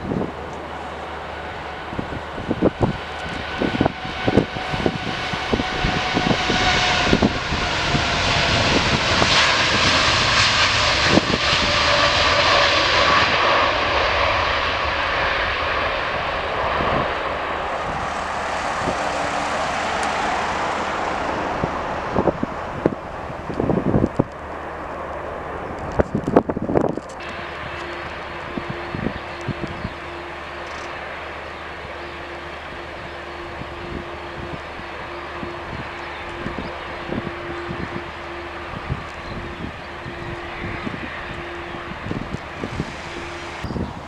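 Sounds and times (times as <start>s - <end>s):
airliner engines passing: 0.0s - 44.0s
wind buffeting microphone: 0.0s - 44.0s.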